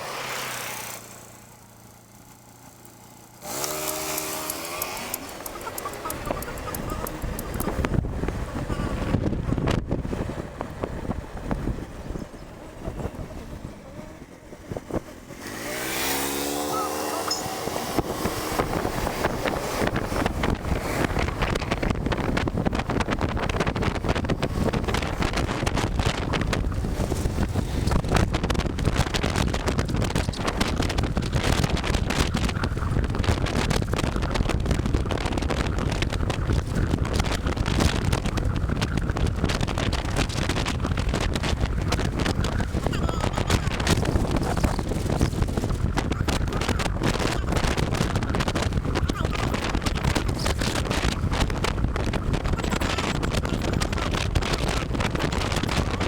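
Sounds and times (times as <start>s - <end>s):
electric scooter whine: 0.0s - 56.0s
wind buffeting microphone: 3.4s - 56.0s.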